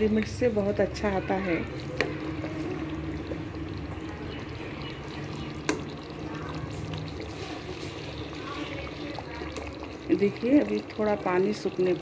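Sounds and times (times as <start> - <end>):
curry bubbling and stirring: 0.0 - 12.0.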